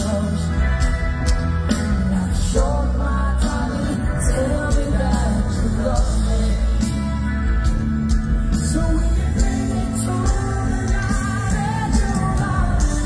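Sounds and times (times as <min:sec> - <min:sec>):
man singing: 0:00.0 - 0:07.4, 0:08.4 - 0:13.0
bass guitar: 0:00.0 - 0:13.0
drums: 0:00.0 - 0:13.0.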